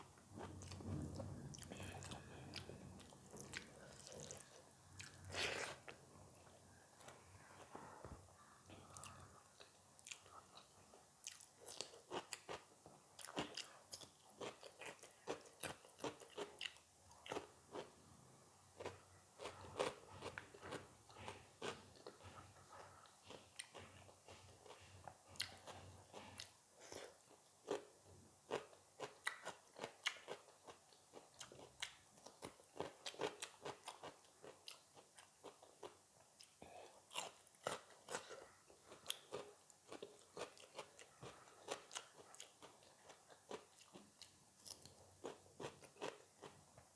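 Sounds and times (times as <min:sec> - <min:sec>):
person chewing crunchy food: 0:00.3 - 0:18.0, 0:18.8 - 0:27.9, 0:28.5 - 0:46.6.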